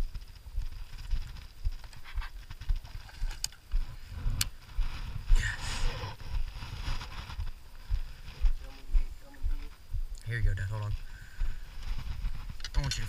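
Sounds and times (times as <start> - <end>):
microphone rubbing against clothing: 0.0 - 13.0.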